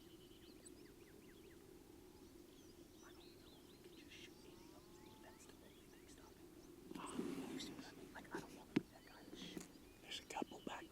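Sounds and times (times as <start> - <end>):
birds chirping and whistling: 0.0 - 10.9.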